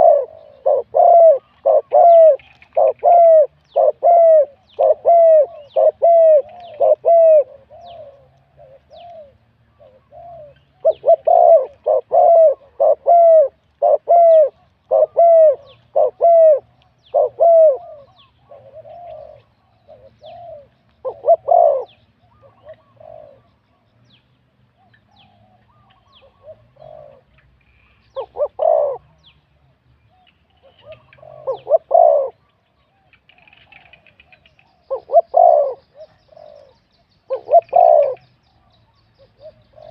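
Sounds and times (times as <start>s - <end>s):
dove cooing: 0.0s - 23.9s, 24.8s - 27.5s, 28.1s - 29.3s, 30.1s - 39.9s.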